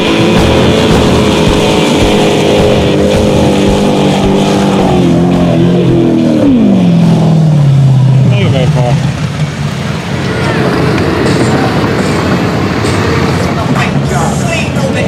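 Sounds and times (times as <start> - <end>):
buggy engine running at high revs: 0.0 - 15.0.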